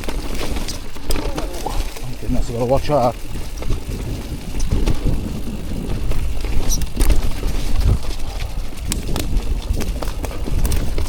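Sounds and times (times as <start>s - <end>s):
bike rattling over bumps: 0.0s - 11.0s
wind and tyre rumble: 0.0s - 11.0s.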